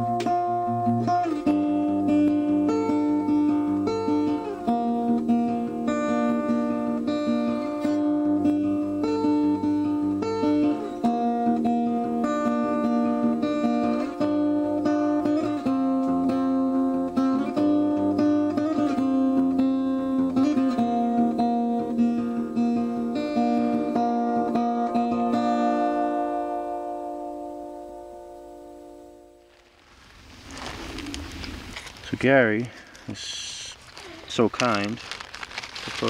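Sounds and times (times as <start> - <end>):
strummed acoustic guitar: 0.0 - 29.8.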